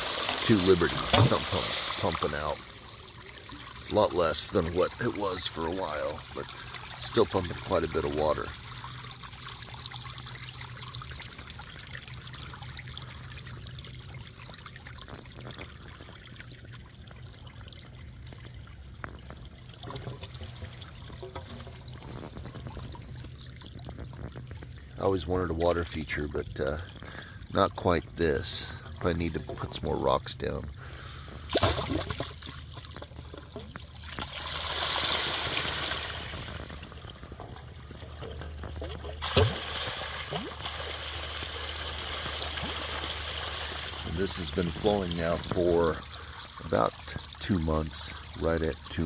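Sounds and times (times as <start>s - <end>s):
water pouring and splashing: 0.0s - 49.0s.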